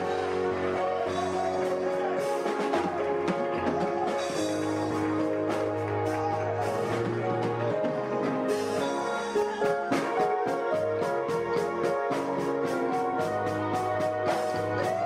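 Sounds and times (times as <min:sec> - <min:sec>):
bass line: 0:00.0 - 0:15.0
drums: 0:00.0 - 0:15.0.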